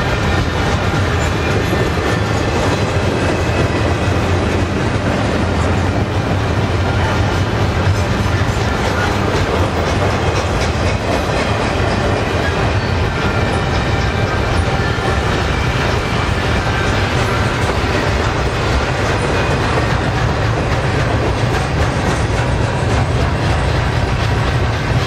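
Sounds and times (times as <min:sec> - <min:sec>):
steel wheels rumbling on rail: 0:00.0 - 0:25.0.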